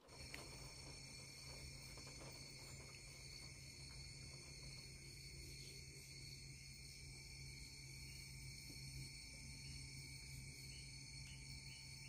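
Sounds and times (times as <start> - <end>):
insects trilling: 0.0 - 12.0
low steady hum: 0.0 - 12.0.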